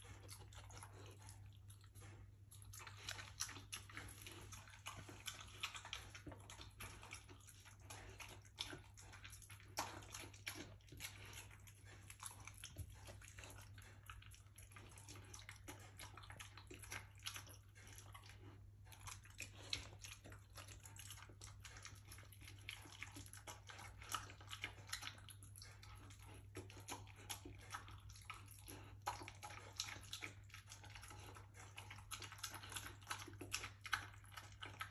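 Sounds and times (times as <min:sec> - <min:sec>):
dog chewing noisily: 0:00.0 - 0:34.9.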